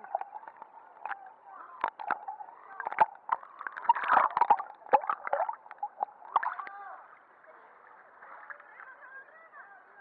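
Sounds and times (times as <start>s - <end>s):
sea water sloshing and gurgling: 0.0s - 9.0s
water splashes: 0.0s - 9.6s.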